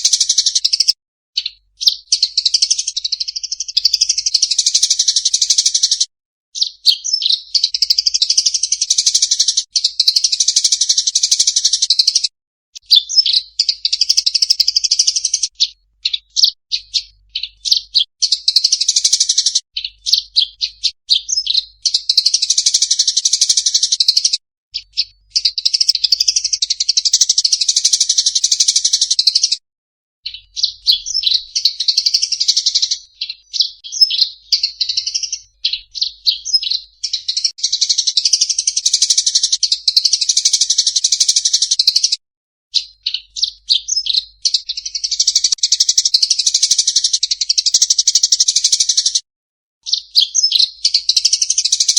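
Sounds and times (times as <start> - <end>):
songbird singing: 0.0 - 29.6, 30.2 - 42.2, 42.8 - 49.2, 49.8 - 51.9.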